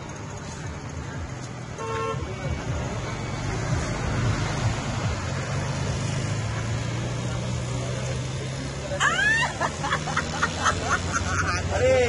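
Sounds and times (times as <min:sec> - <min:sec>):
road noise: 0:00.0 - 0:12.0
vehicle engine droning: 0:00.0 - 0:12.0.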